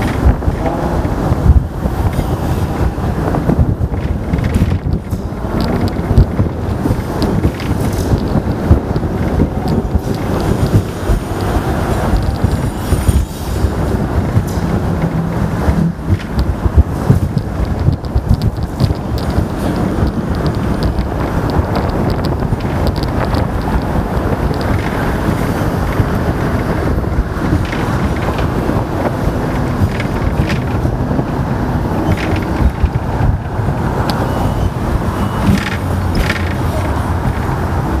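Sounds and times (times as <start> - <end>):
tram clicks and knocks: 0.0 - 38.0
tram rumbling: 0.0 - 38.0
wind buffeting microphone: 0.0 - 38.0.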